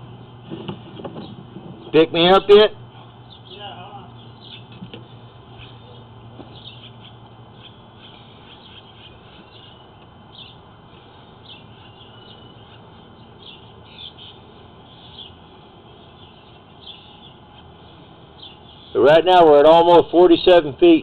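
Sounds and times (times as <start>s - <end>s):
small birds chirping: 0.0s - 2.3s, 2.9s - 19.8s
low background hum: 0.0s - 21.0s.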